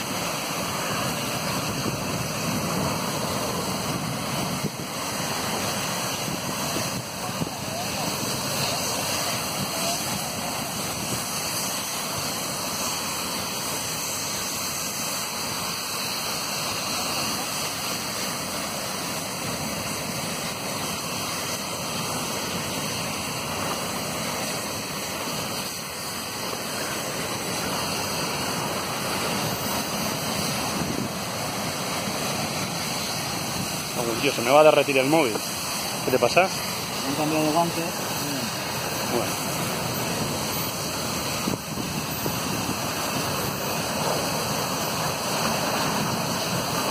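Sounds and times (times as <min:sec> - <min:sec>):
fire hose spraying water: 0:00.0 - 0:46.9.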